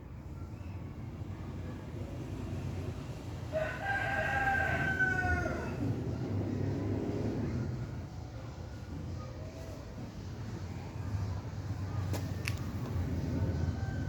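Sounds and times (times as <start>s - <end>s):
low steady background rumble: 0.0s - 14.0s.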